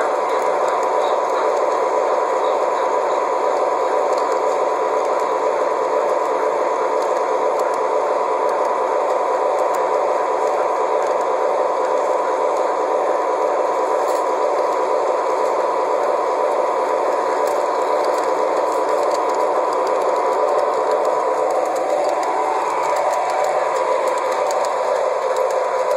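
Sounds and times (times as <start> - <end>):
model train running on track: 0.0 - 25.9.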